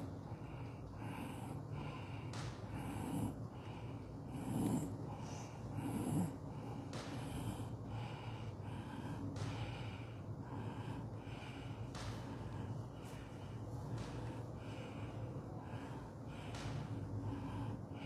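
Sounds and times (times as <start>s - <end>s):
breathing and sniffing: 0.0s - 18.0s
low steady hum: 0.0s - 18.0s.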